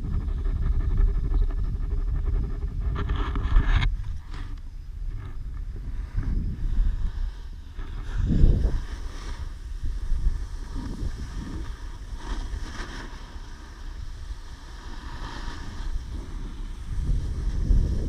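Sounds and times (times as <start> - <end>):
wind buffeting microphone: 0.0 - 18.0
snowboard scraping over snow: 0.2 - 18.0.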